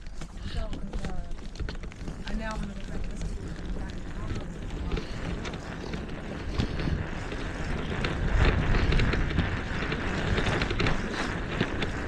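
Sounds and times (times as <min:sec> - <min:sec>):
bicycle knocks and rattles: 0:00.0 - 0:12.0
low rumble: 0:00.0 - 0:12.0
wind buffeting microphone: 0:00.0 - 0:12.0.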